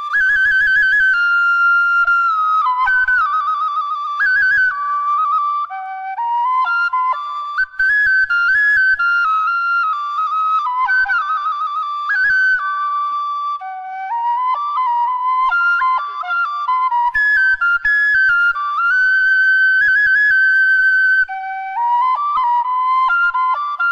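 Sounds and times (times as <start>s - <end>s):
bamboo flute melody: 0.0s - 23.9s.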